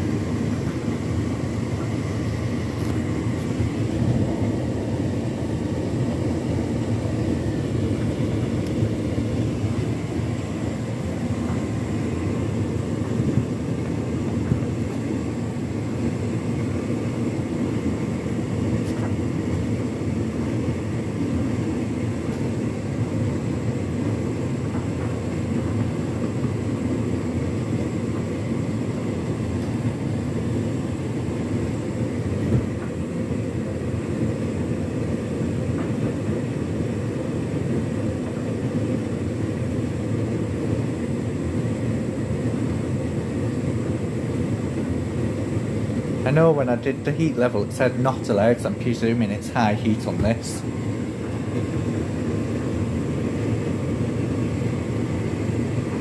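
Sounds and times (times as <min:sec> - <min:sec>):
tumble dryer rumbling: 0:00.0 - 0:56.0.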